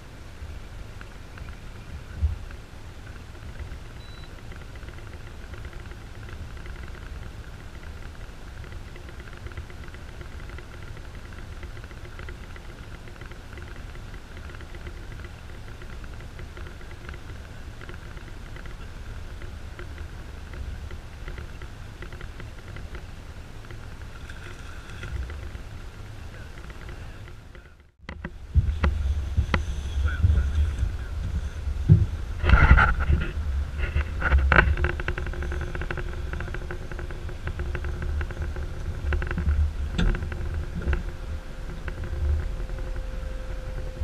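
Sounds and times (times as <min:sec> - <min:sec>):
boat motor hum: 0:00.0 - 0:44.0
low wind rumble: 0:00.0 - 0:44.0.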